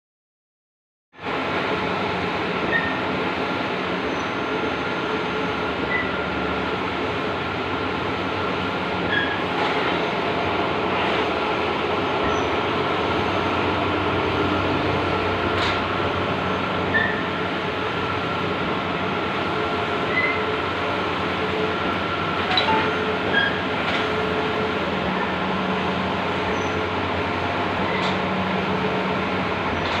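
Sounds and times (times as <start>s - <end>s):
printing machine whirring: 4.8s - 30.0s.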